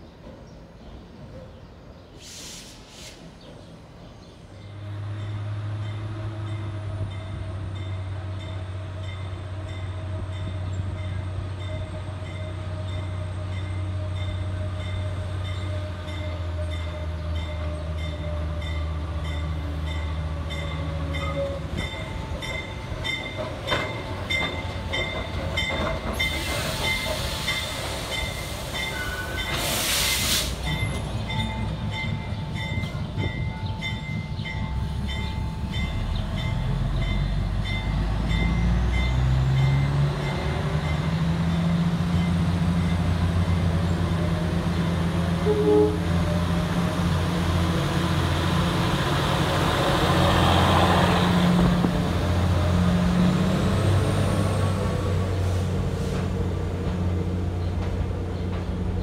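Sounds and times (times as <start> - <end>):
diesel locomotive drone: 0.0 - 59.0.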